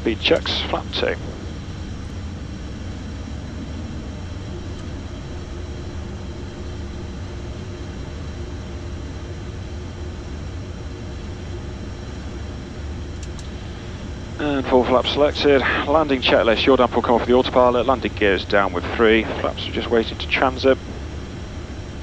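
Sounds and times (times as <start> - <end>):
airflow rush: 0.0 - 22.0
low jet engine hum: 0.0 - 22.0
steady tone: 0.0 - 22.0.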